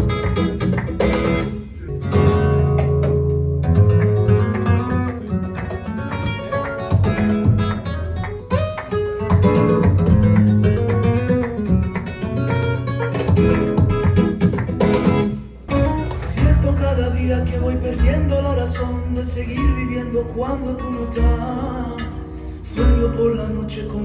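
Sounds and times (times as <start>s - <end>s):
flamenco acoustic guitar music: 0.0s - 24.0s.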